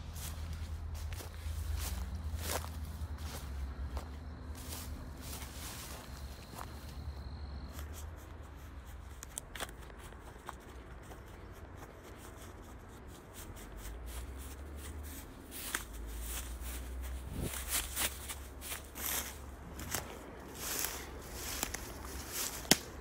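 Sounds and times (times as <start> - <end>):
footsteps through dry grass: 0.0 - 23.0
stems and branches rustling: 0.0 - 23.0.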